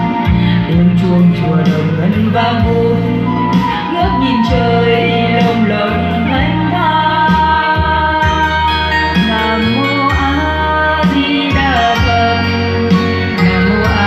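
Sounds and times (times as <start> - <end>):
steady bass line: 0.0 - 14.0.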